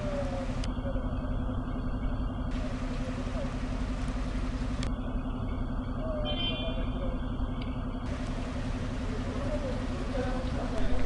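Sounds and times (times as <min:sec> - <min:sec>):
car engine running: 0:00.0 - 0:11.0
constant hum: 0:00.0 - 0:11.0.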